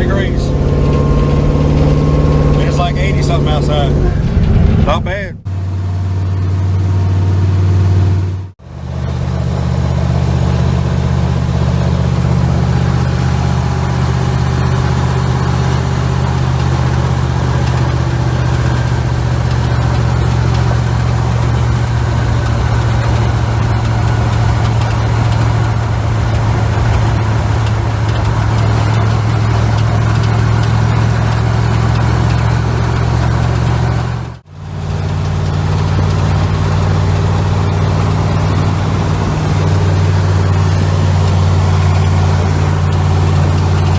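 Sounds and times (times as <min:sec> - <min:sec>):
car engine cruising: 0:00.0 - 0:43.9.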